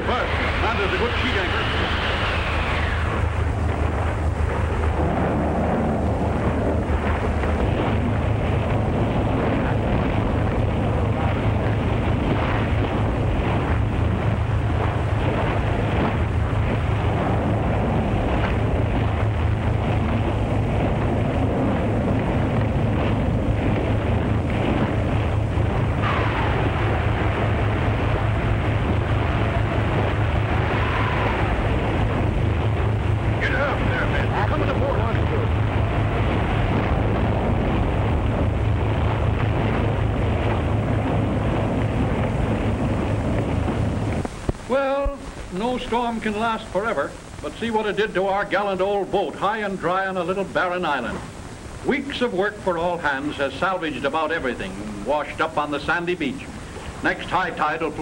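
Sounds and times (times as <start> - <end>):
wind rushing: 0.0 - 47.9
low rumble: 0.0 - 58.0
waves breaking: 0.0 - 58.0
wind howling: 0.0 - 58.0.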